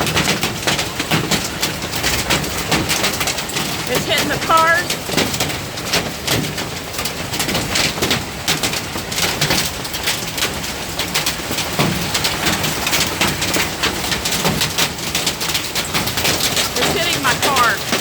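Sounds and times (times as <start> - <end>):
hail clattering on cars: 0.0 - 18.0.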